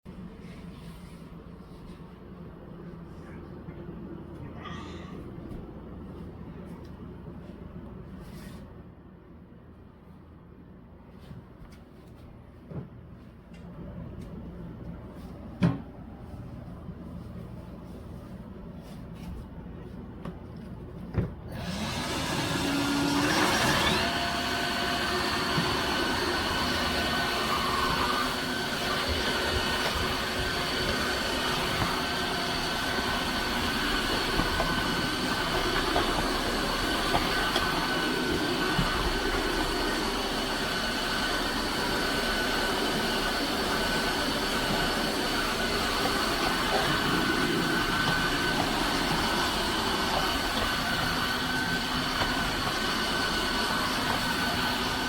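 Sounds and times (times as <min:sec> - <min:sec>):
floor washer motor whine: 0:00.1 - 0:55.0.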